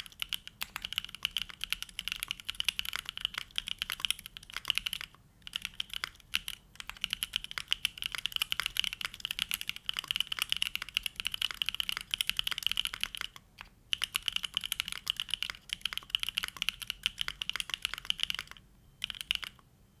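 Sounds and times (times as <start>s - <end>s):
mechanical keyboard typing: 0.0s - 19.6s.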